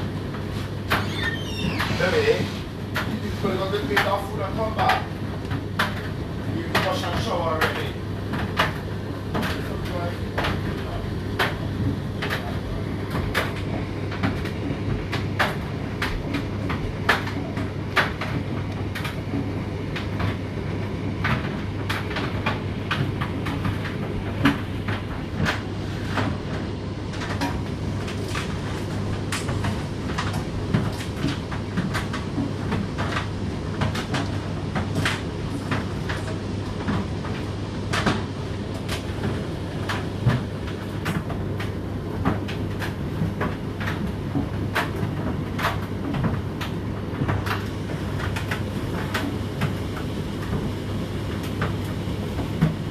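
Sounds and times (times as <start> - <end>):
tumble dryer motor hum: 0.0 - 52.9.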